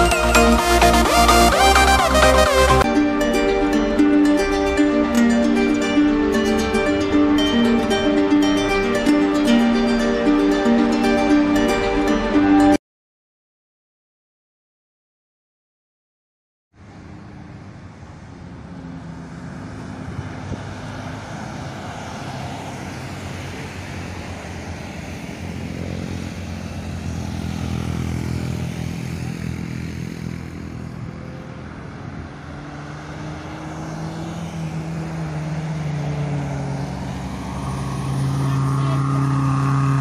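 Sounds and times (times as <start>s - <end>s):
diesel bus engines passing: 0.0s - 12.8s, 16.8s - 40.0s
road noise: 0.0s - 12.8s, 16.7s - 40.0s.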